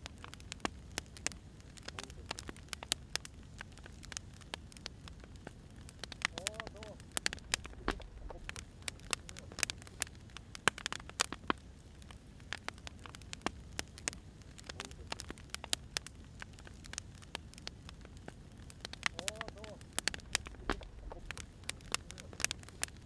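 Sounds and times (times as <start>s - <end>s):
firewood crackling and popping: 0.0s - 23.0s
low rumble of fire: 0.0s - 23.0s.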